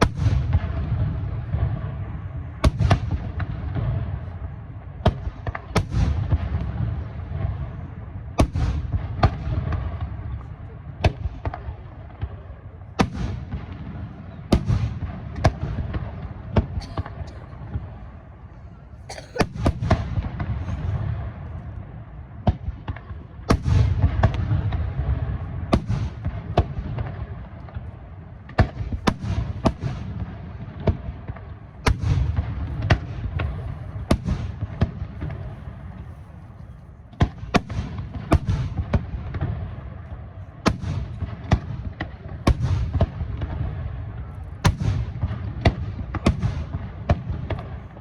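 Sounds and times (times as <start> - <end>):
fireworks booming and cracking: 0.0 - 48.0.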